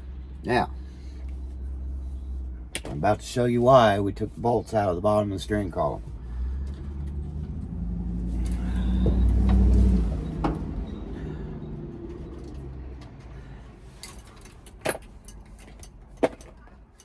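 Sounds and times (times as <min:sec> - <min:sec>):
vehicle engine rumble passing: 0:00.0 - 0:16.2.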